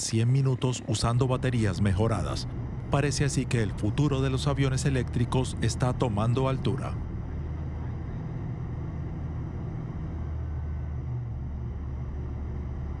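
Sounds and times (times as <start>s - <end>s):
electric aircraft humming overhead: 0.0s - 13.0s.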